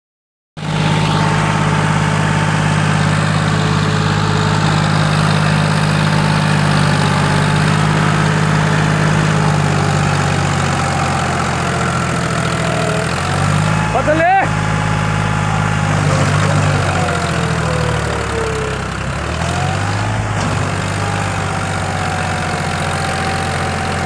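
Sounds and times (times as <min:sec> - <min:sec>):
tractor diesel engine running: 0:00.6 - 0:24.0.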